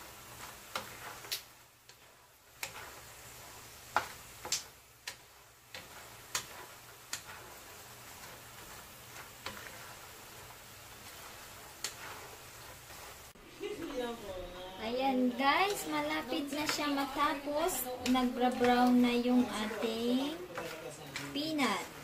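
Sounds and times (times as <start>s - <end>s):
spatula and nuts tapping a pan: 0.0s - 14.2s, 15.1s - 22.0s.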